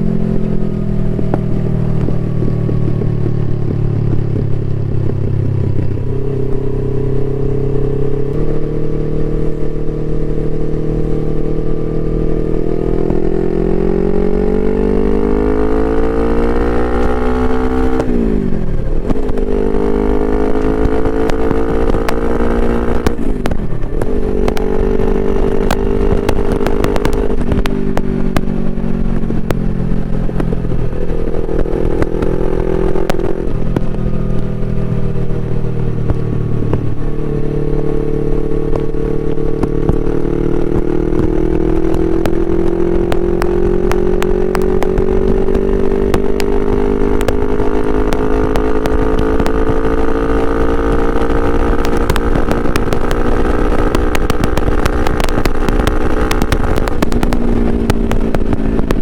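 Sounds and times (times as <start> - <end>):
exhaust crackles: 0.0 - 59.0
motorcycle engine revving: 0.0 - 59.0.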